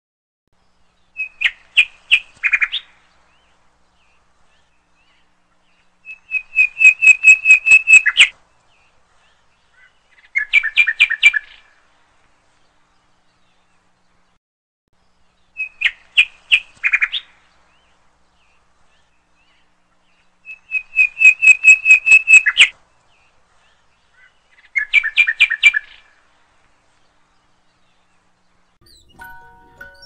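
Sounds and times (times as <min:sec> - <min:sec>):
bird chirping: 0:00.6 - 0:11.7, 0:15.0 - 0:26.1, 0:27.0 - 0:30.0.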